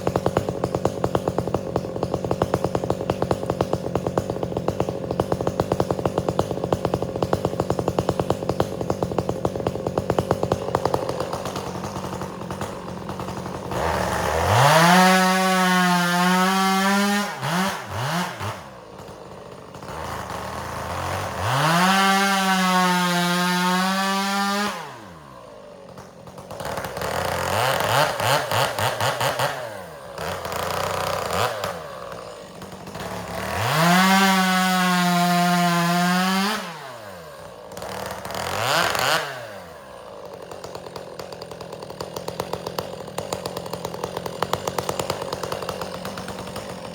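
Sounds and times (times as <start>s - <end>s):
chainsaw revving and cutting wood: 0.0s - 46.9s.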